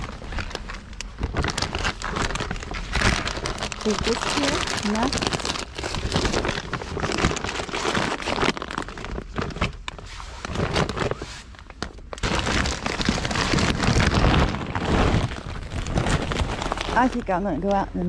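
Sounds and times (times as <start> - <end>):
plastic bags rustling: 0.0 - 17.9.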